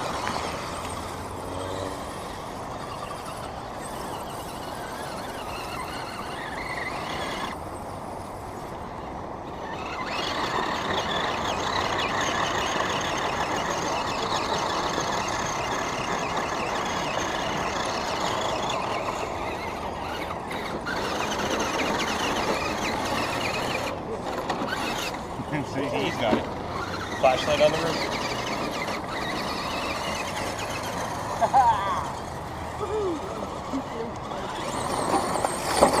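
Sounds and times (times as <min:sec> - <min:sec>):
small electric motors whining: 0:00.0 - 0:36.0.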